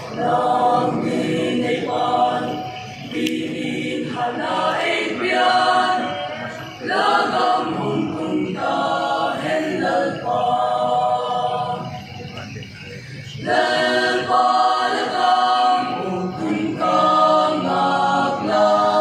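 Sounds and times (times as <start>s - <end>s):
mixed choir singing a hymn: 0.0s - 19.0s.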